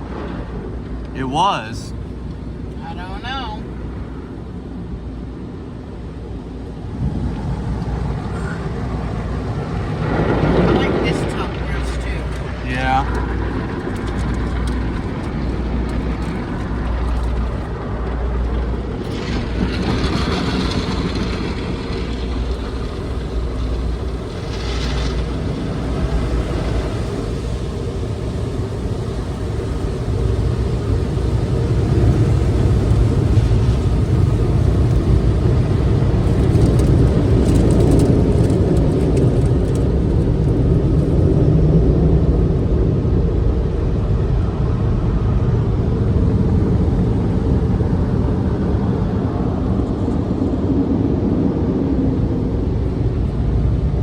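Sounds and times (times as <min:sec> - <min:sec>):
car wash machinery rumble: 0:00.0 - 0:54.0.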